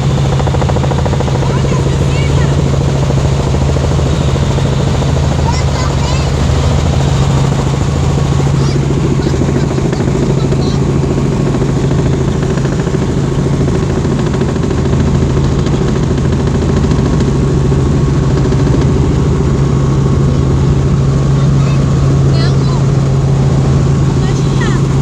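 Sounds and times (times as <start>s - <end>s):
helicopter drone: 0.0s - 25.0s.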